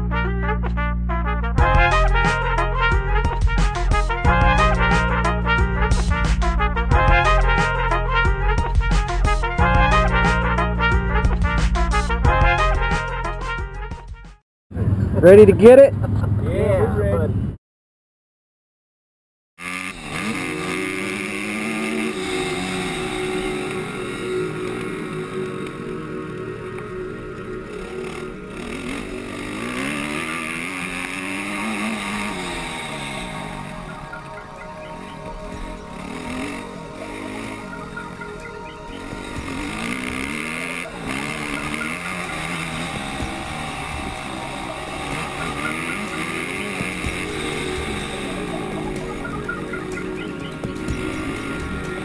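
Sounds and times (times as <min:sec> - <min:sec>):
dirt bike engine revving: 0:01.6 - 0:13.7, 0:19.6 - 0:52.0.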